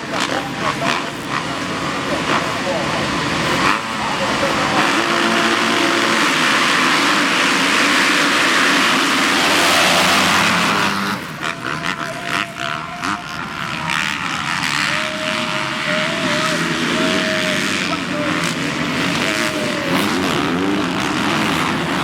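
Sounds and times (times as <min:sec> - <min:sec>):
motocross bikes roaring: 0:00.0 - 0:22.0.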